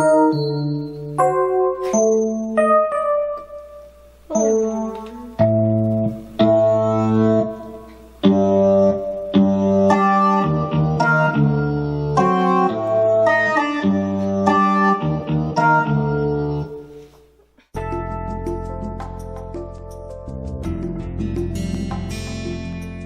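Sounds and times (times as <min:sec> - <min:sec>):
keyboard chords over bass notes: 0:00.0 - 0:17.0, 0:17.8 - 0:23.0.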